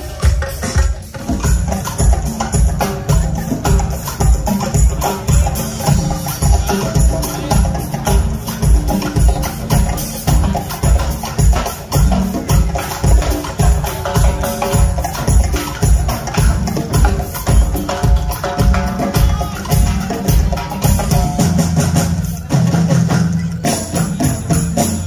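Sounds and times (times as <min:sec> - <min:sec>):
drum kit and hand drums: 0:00.0 - 0:25.0.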